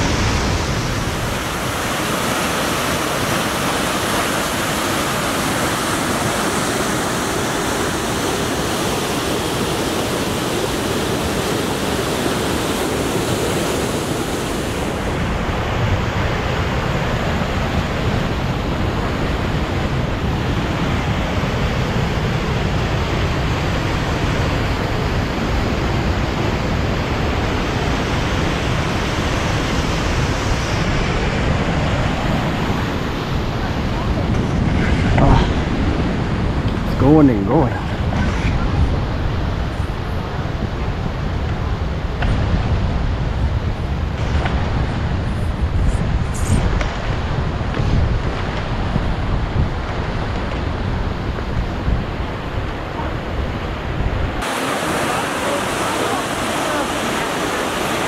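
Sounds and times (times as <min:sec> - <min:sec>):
rushing water roar: 0:00.0 - 0:58.0.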